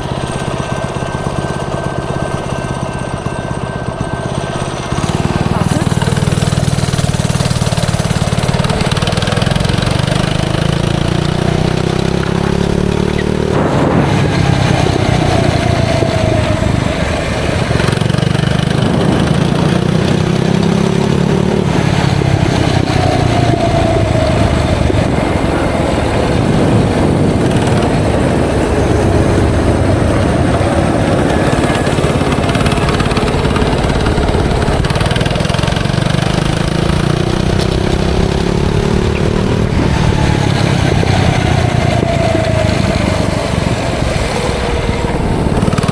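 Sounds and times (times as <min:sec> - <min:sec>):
minibike engine revving: 0:00.0 - 0:45.9.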